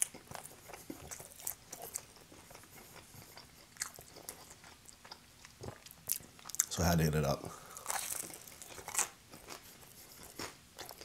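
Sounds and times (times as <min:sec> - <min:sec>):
chewing pizza: 0:00.0 - 0:06.8, 0:07.7 - 0:11.0.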